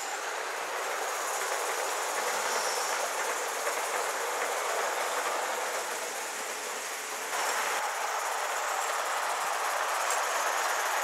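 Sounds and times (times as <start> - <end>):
model steam train on metal track: 0.0 - 11.0.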